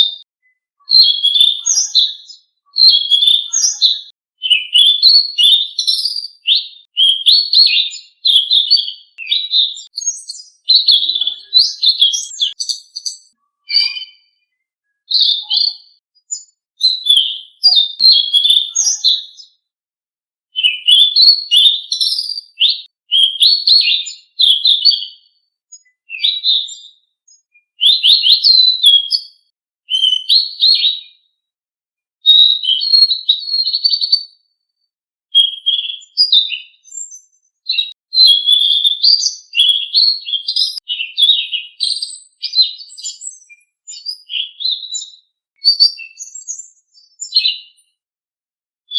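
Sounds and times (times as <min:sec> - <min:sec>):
songbird chirping and whistling: 0:00.0 - 0:19.6, 0:20.5 - 0:31.2, 0:32.3 - 0:34.4, 0:35.3 - 0:47.9.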